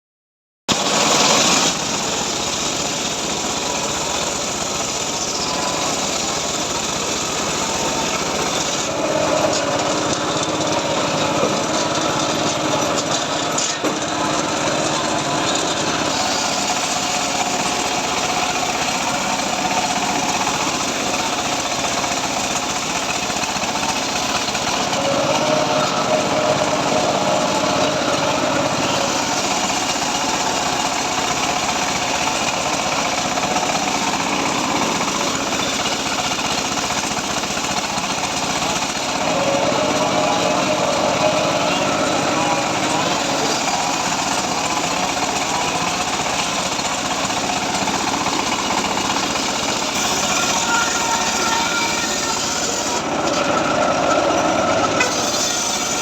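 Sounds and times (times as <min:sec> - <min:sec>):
circular saw cutting wood: 0:00.7 - 0:56.0.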